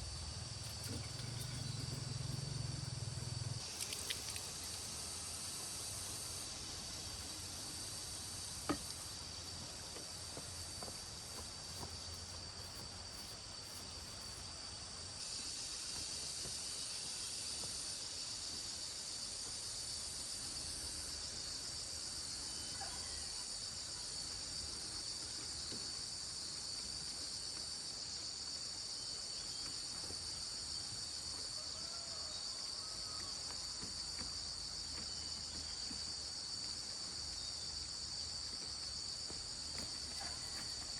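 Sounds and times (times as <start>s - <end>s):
insects chorus: 0.0s - 40.9s.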